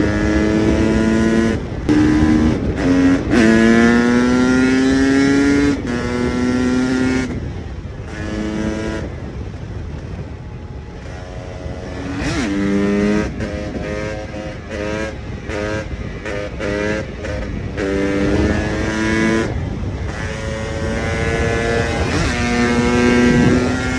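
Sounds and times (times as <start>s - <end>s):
engine throttle blips: 0.0s - 23.9s
two-stroke motorcycle engine: 0.0s - 23.9s.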